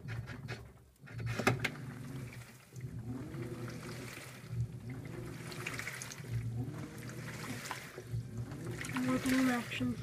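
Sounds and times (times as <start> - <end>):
washing machine motor whining: 0.0 - 10.0
water sloshing: 1.6 - 10.0.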